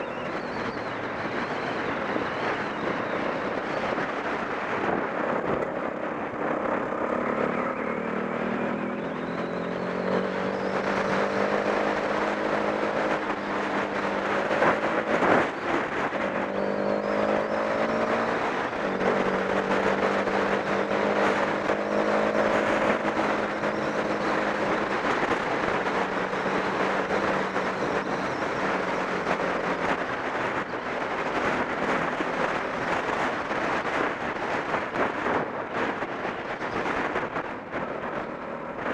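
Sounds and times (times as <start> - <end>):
motorcycle engine running: 0.0 - 38.9
steady noisy rush: 0.0 - 38.9.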